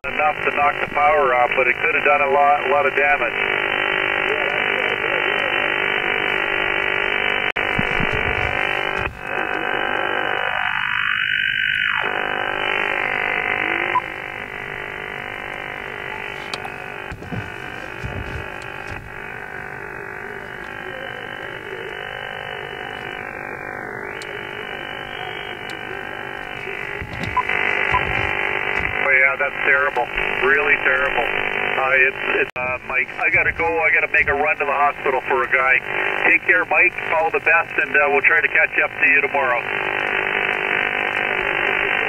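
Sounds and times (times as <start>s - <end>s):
garbled wavering radio signal: 0.0s - 42.0s
radio receiver hiss: 0.0s - 42.0s.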